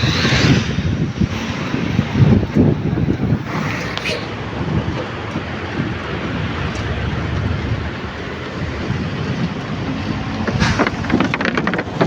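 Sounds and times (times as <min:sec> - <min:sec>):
sea surf washing on shore: 0:00.0 - 0:12.0
wind on microphone: 0:00.0 - 0:12.0.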